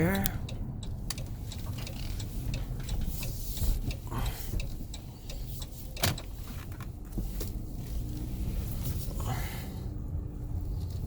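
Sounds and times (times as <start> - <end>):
turn signal ticking: 0.0 - 9.2
engine and road rumble: 0.0 - 11.0.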